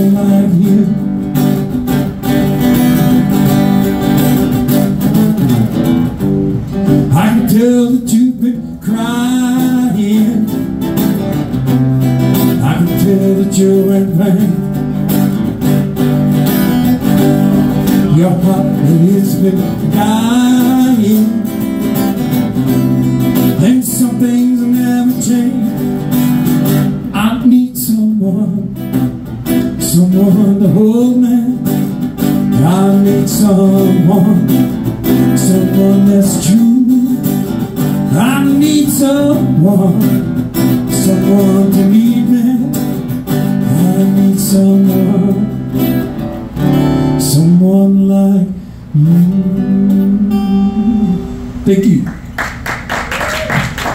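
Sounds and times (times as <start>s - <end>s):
acoustic guitar blues: 0.0s - 53.9s.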